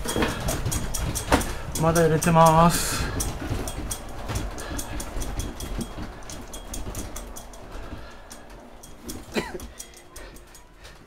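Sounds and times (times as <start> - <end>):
loose objects clicking and rattling: 0.0 - 11.0.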